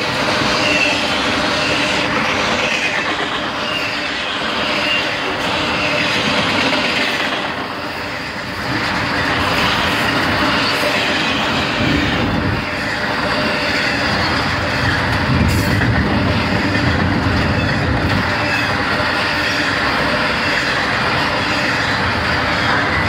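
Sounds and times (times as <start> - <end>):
rattling rail cars: 0.0 - 23.0
steel wheels on rails: 0.0 - 23.0.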